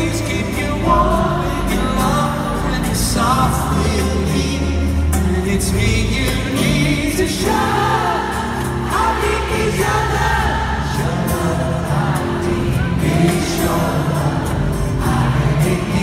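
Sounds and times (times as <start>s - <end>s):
live pop band playing: 0.0s - 16.0s
man singing into a microphone: 0.0s - 16.0s.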